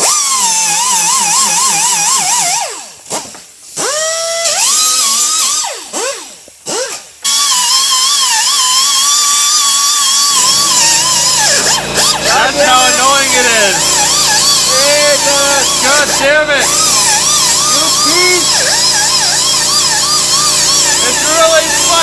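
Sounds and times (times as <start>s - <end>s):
power grinder whining on metal: 0.0s - 22.0s.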